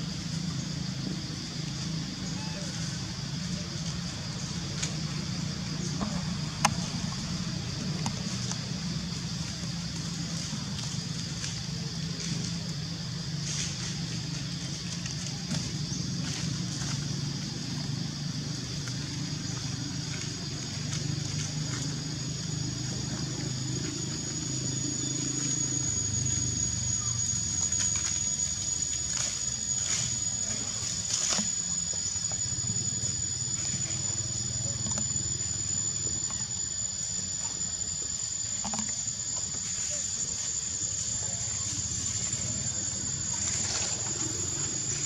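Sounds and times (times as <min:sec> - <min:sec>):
insect chorus: 0:00.0 - 0:45.0
thin whining tone: 0:00.0 - 0:45.0.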